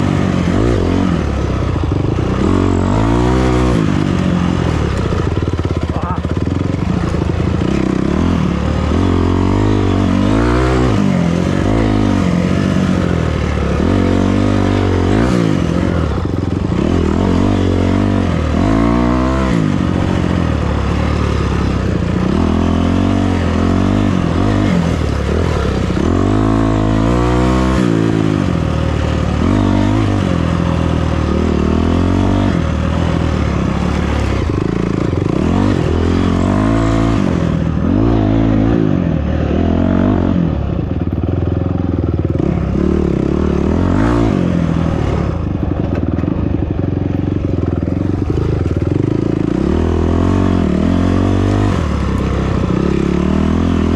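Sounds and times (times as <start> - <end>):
off-road engine revving: 0.0 - 53.9.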